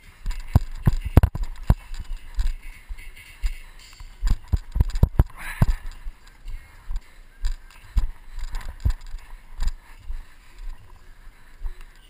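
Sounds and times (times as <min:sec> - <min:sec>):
camera jostling: 0:00.0 - 0:11.0
footsteps through wet mud: 0:00.0 - 0:12.0.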